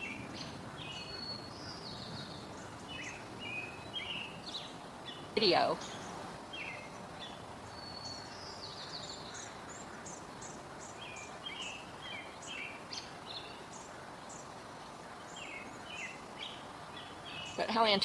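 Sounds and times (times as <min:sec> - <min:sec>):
outdoor background hiss: 0:00.0 - 0:18.0
songbirds chirping: 0:00.0 - 0:18.0.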